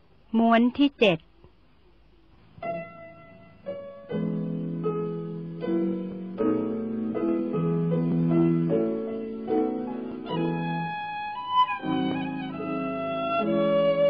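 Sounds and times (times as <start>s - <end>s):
instrumental music with held chords: 2.6s - 14.0s.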